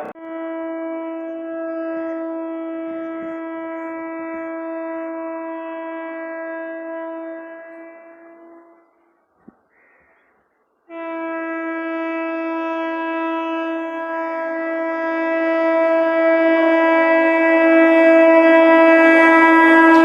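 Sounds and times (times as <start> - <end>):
locomotive horn blast: 0.0 - 9.0, 10.9 - 20.0.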